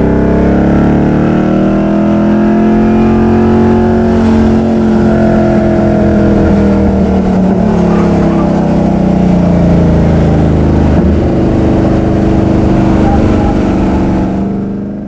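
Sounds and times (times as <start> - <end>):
car engine under load: 0.0 - 15.0
tyre and road noise: 0.0 - 15.0.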